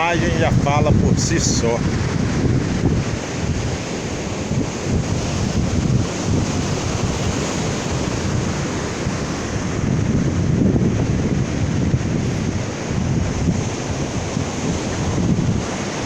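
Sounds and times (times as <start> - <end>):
sea surf washing onto beach: 0.0 - 16.0
wind buffeting microphone: 0.0 - 16.0.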